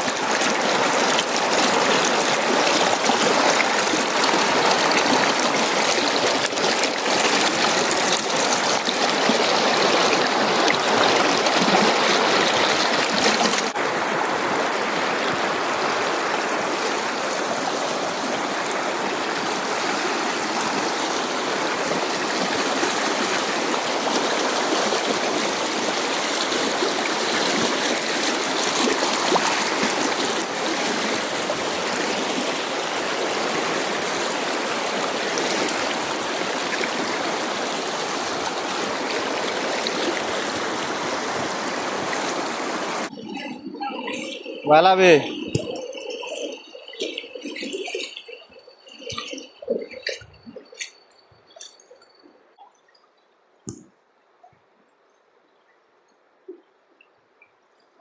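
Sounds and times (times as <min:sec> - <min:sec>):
stream rushing over rocks: 0:00.0 - 0:51.0.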